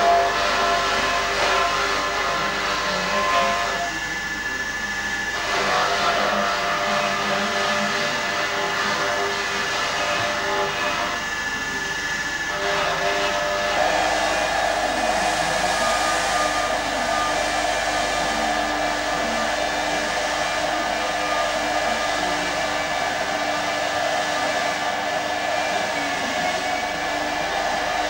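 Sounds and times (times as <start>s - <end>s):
polishing motor whirring: 0.0s - 28.0s.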